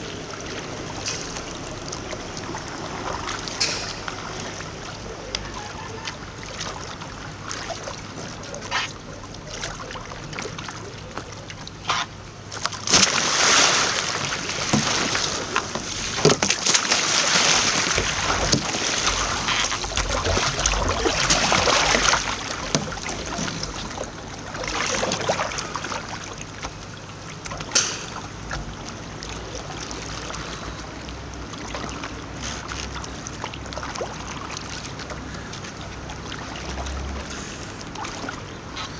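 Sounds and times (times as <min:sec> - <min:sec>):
paddle dripping: 0:00.0 - 0:38.9
water lapping: 0:00.0 - 0:38.9
water splashing around kayak: 0:00.0 - 0:38.9.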